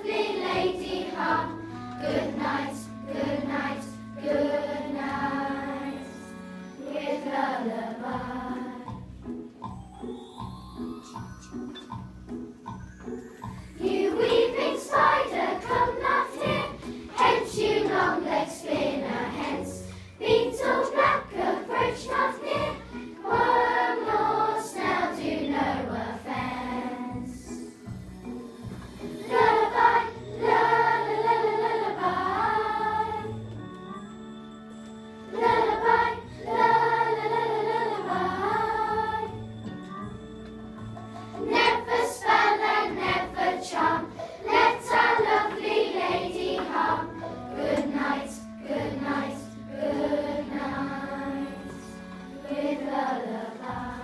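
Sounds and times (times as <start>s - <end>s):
children singing together: 0.0s - 9.0s, 13.7s - 27.7s, 29.0s - 33.5s, 35.3s - 39.5s, 41.3s - 54.0s
musical accompaniment: 0.0s - 54.0s.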